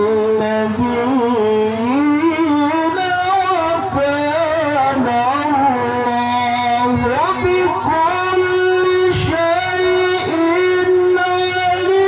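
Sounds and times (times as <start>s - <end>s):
man chanting melodically into microphone: 0.0s - 12.0s.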